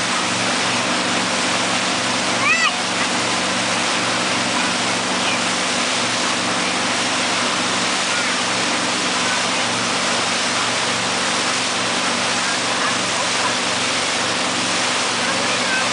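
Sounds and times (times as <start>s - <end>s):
boat engine drone: 0.0s - 15.9s
churning wake water: 0.0s - 15.9s.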